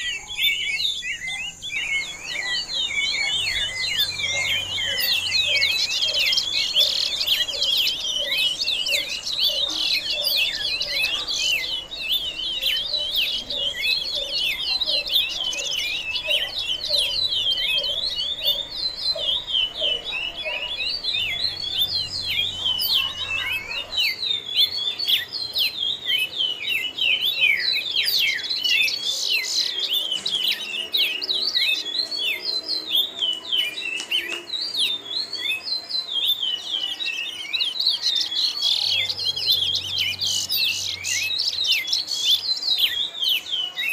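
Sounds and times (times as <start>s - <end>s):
birds chirping: 0.0s - 43.9s
lower repeated bird notes: 0.0s - 43.9s.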